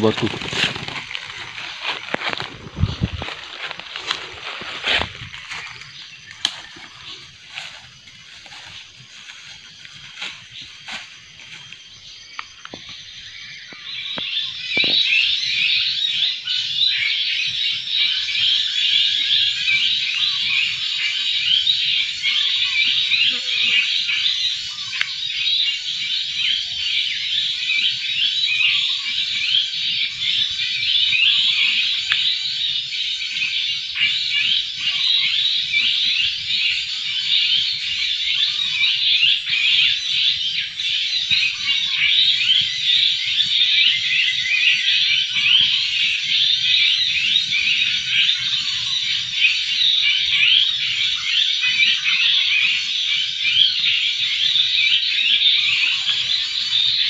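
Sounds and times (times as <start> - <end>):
rapid high chirping and trilling: 0.0 - 57.0.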